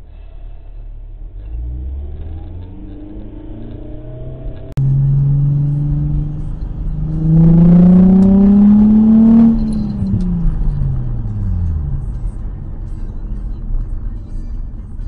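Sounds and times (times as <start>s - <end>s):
vehicle engine revving: 1.1s - 14.4s.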